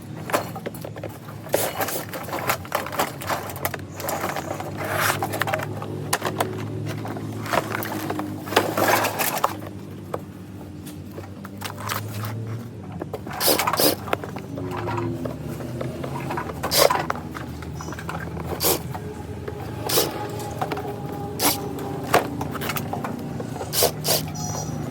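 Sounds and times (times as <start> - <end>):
plastic and metal parts clattering: 0.0 - 24.9.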